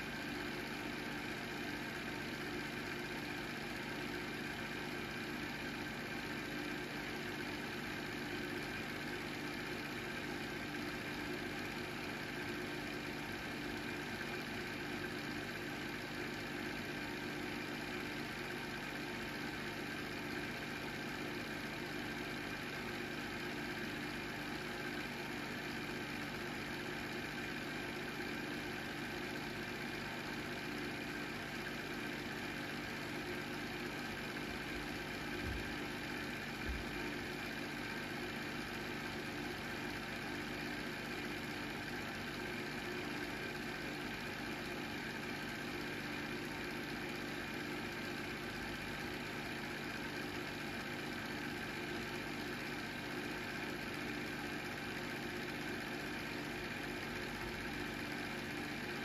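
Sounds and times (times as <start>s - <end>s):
film projector motor whirring: 0.0s - 59.0s.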